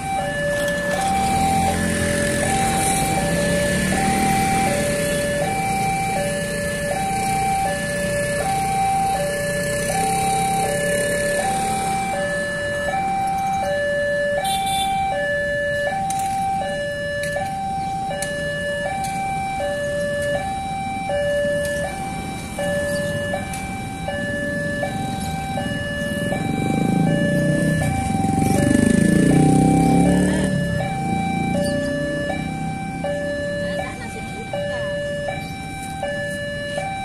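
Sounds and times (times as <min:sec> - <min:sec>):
level crossing warning alarm: 0:00.0 - 0:37.0
low rumble of traffic: 0:00.0 - 0:37.0.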